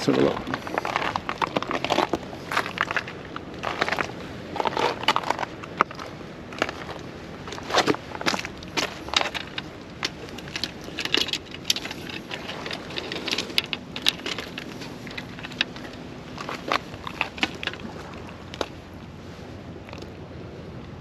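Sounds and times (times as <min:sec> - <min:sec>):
fishing gear clicks and rattles: 0:00.0 - 0:19.1.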